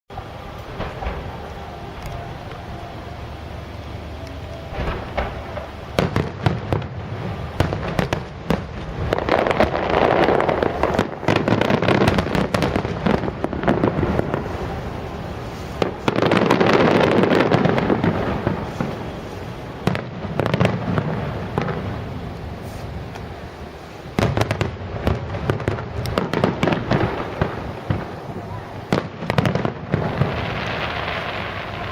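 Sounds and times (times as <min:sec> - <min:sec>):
dense firework crackling: 0:00.1 - 0:31.9
fireworks bangs: 0:00.1 - 0:31.9.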